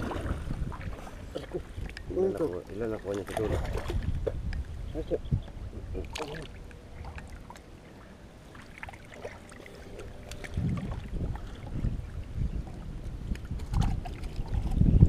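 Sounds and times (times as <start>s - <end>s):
small splashes: 0.0s - 4.4s, 5.9s - 14.8s
low rumbling of moving water: 0.0s - 15.0s
water sloshing and lapping: 0.0s - 15.0s.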